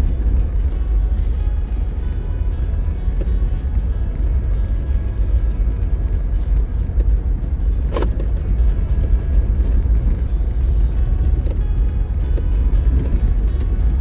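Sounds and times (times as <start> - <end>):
off-road vehicle engine rumble: 0.0 - 14.0.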